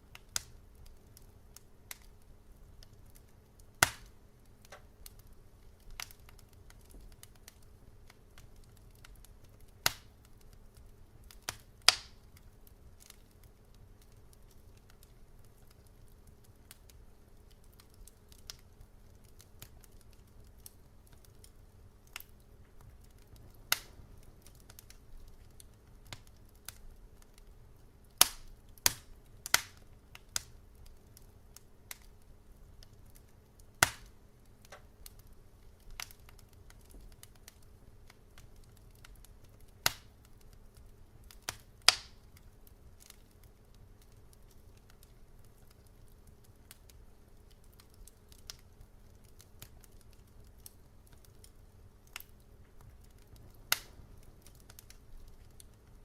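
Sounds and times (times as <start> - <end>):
faint low hum: 0.0 - 56.0
wood fire crackling: 0.0 - 56.0.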